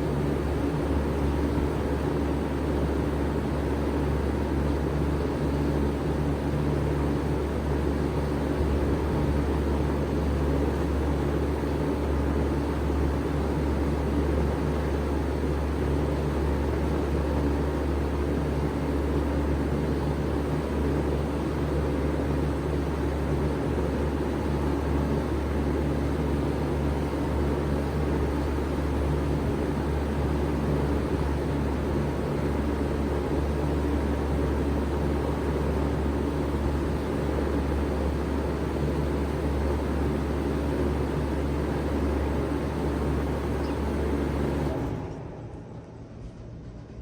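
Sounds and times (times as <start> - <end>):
heat pump humming: 0.0 - 45.6
fan air rushing: 0.0 - 47.0.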